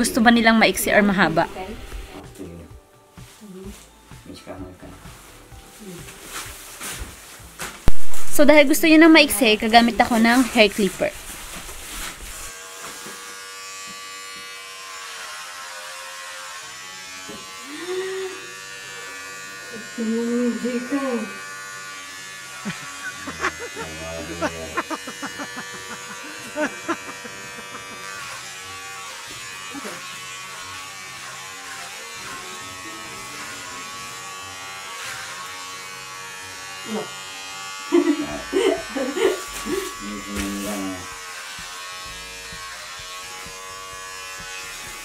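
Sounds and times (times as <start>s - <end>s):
electric hair clipper buzzing: 0.0s - 3.8s, 6.2s - 45.0s.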